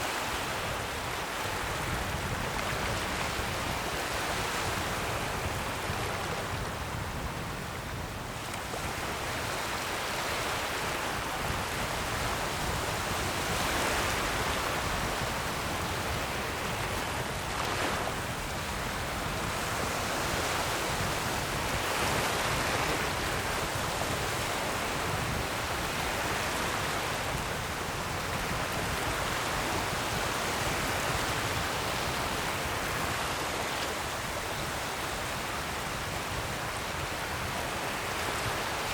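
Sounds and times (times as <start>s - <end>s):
ocean surf washing: 0.0s - 38.9s.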